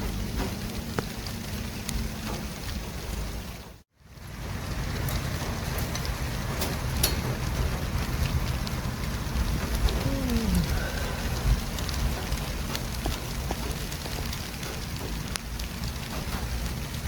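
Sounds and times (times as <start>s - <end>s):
road traffic rumble and hiss: 0.0s - 17.0s.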